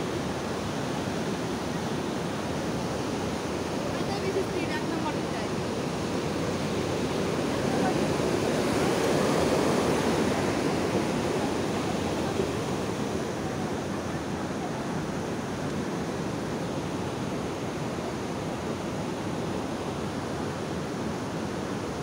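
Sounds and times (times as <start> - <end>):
water rushing through sluice gates: 0.0 - 22.0.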